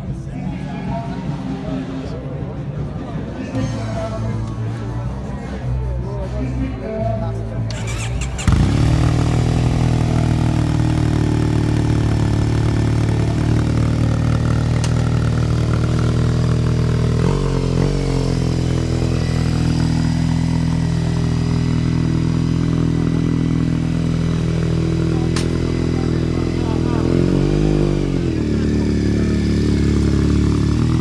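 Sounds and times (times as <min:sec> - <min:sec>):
motorcycle engine idling: 0:05.6 - 0:31.0.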